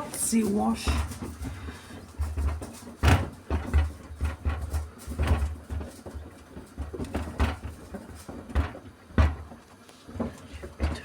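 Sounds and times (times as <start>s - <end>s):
washing machine drum tumbling: 0.0s - 11.0s.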